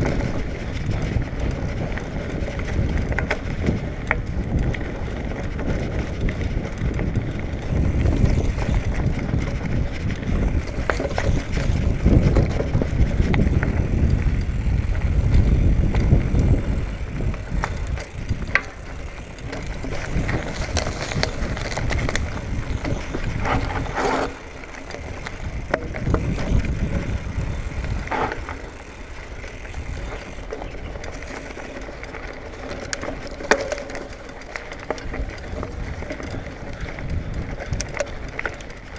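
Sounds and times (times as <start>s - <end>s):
bike clicks and rattles: 0.0s - 38.9s
bike tyres on dirt and leaves: 0.0s - 38.9s.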